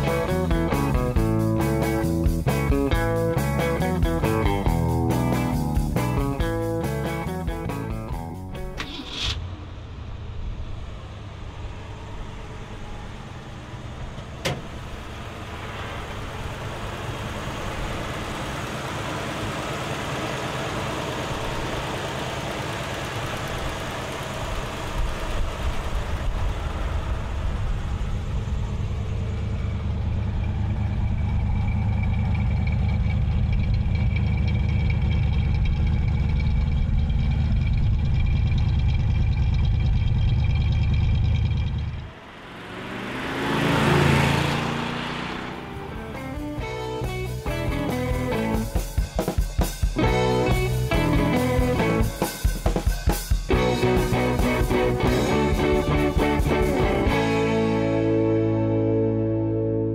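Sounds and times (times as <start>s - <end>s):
car engine idling: 0.0s - 59.7s.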